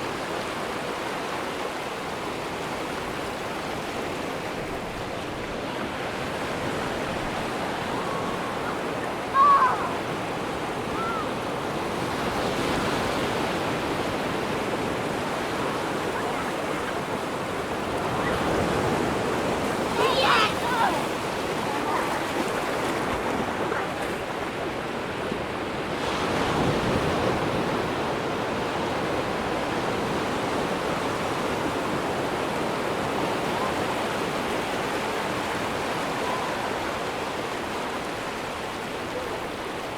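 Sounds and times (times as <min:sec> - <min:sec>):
surf washing onto beach: 0:00.0 - 0:39.9.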